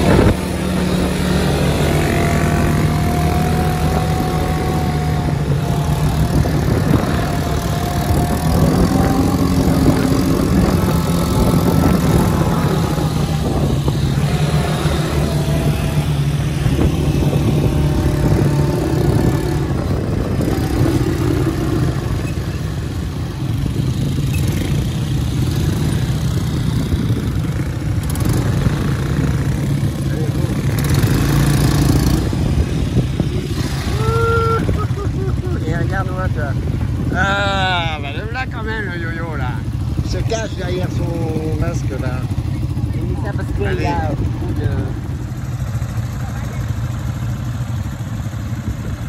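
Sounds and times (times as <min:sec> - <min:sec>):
quad bike engines droning: 0:00.0 - 0:49.0.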